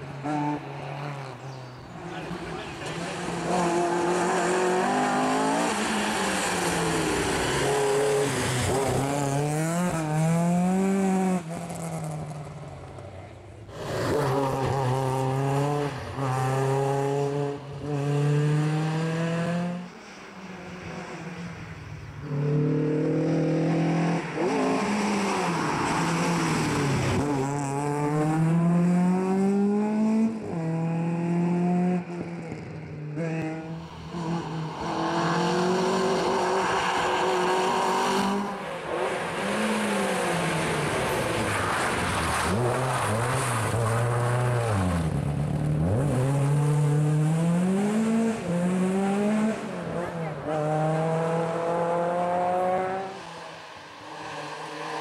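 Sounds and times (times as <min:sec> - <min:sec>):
rally car engines revving: 0:00.0 - 0:12.4, 0:13.6 - 0:55.0.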